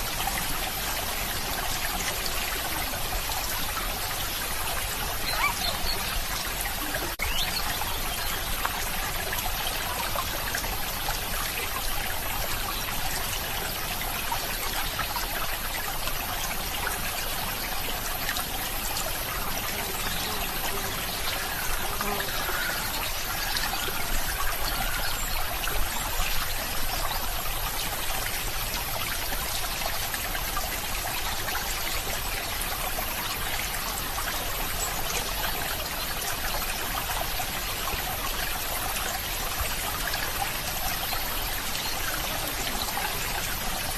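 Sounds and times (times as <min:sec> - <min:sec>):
water trickling in a stream: 0:00.0 - 0:43.9.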